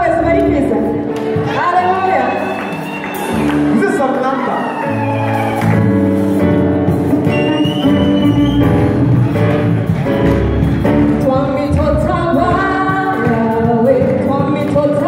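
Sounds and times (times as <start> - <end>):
gospel band playing: 0.0 - 15.0
guitar: 0.0 - 15.0.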